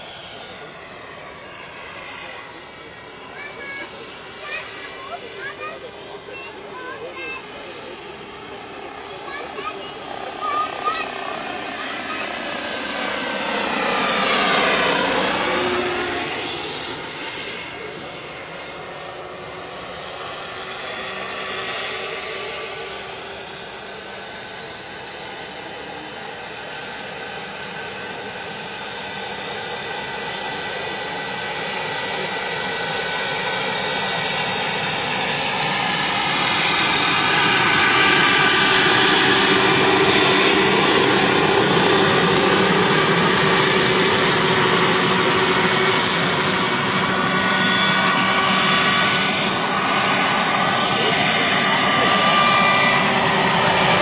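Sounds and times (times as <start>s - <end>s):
model helicopter turbine whine: 0.0s - 54.0s.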